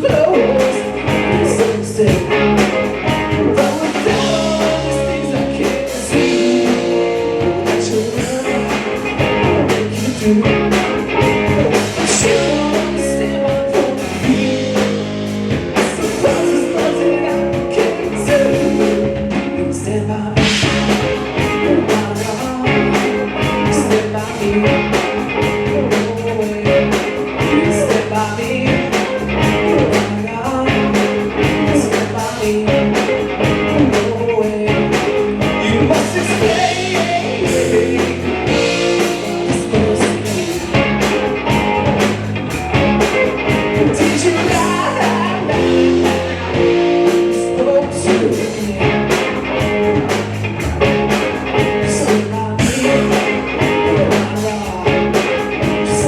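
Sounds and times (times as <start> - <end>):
person singing: 0.0 - 42.2, 42.8 - 50.2, 51.6 - 56.0
drum kit: 0.0 - 56.0
electric guitar: 0.0 - 56.0.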